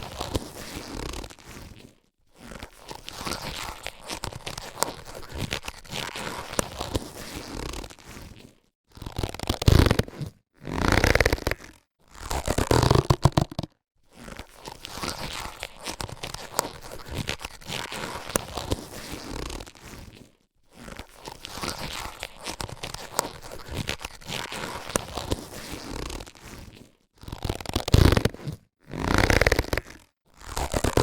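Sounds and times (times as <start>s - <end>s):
latex gloves rustling: 0.0s - 8.7s, 12.7s - 31.0s.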